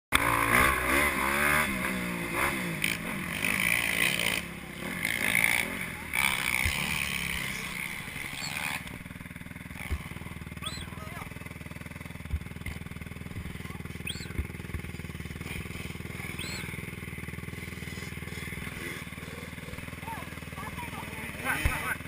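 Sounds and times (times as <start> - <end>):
motorbike engines revving: 0.1 - 22.0.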